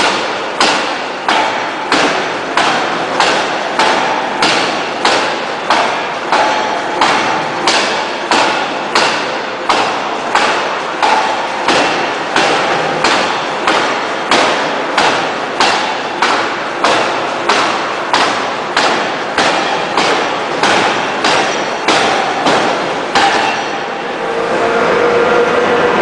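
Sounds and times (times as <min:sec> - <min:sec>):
forging hammer striking metal: 0:00.0 - 0:24.2.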